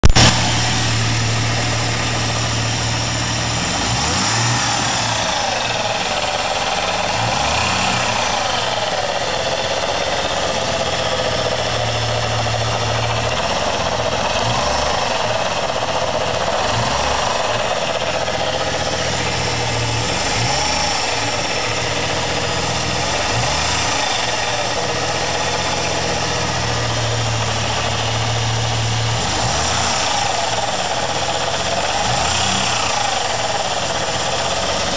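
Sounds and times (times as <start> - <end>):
car engine idling: 0.0 - 34.9
supercharger whine: 0.0 - 34.9.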